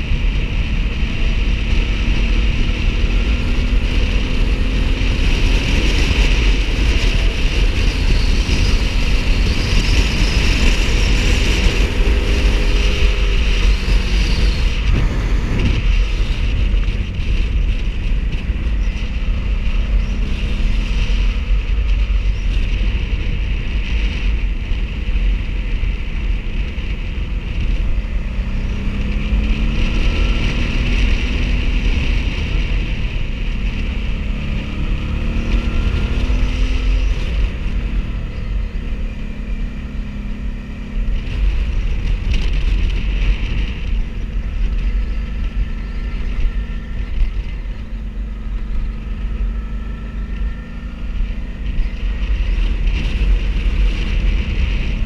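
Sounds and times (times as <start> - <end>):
motorcycle engine revving: 0.0 - 55.0
wind rumble on microphone: 0.0 - 55.0.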